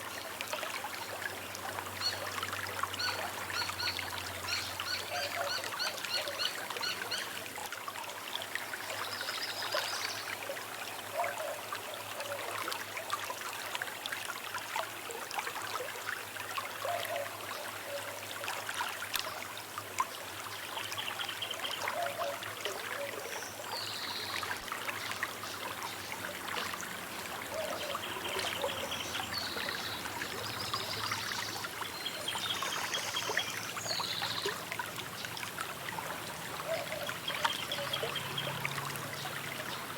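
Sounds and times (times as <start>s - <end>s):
river trickling over stones: 0.0s - 39.9s.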